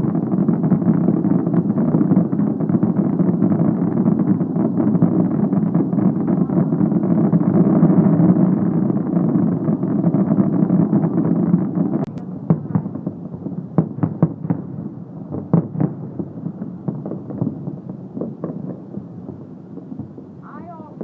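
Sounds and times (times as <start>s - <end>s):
firework bangs and crackles: 0.0s - 21.0s
fireworks bursting: 0.0s - 21.0s.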